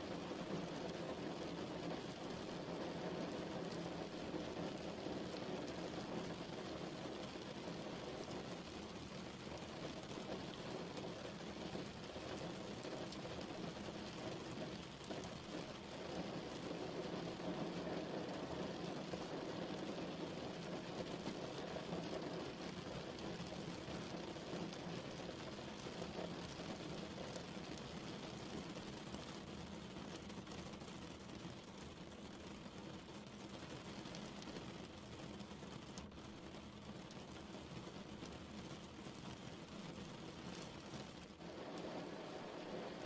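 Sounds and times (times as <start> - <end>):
rain pattering on a surface: 0.0 - 43.0.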